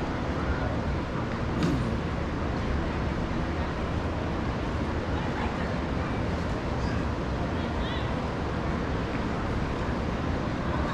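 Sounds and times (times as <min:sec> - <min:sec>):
road traffic rumble: 0:00.0 - 0:10.9.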